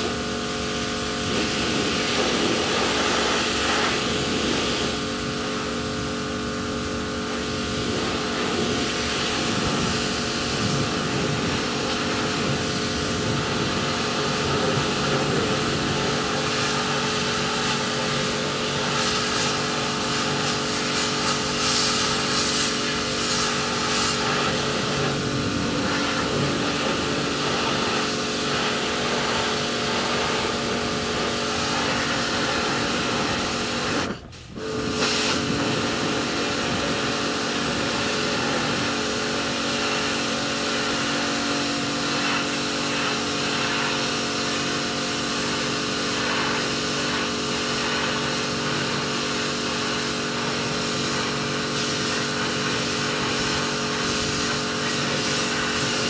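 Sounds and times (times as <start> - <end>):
pressure washer motor humming: 0.0 - 56.0
water jet hissing: 0.7 - 5.8, 7.0 - 56.0.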